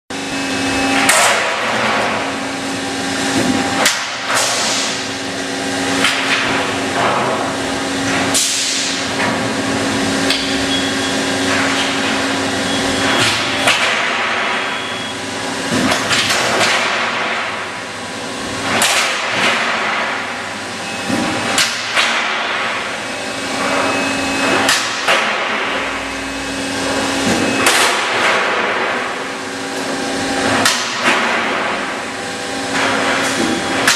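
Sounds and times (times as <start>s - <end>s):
steady machine hum: 0.1s - 33.9s.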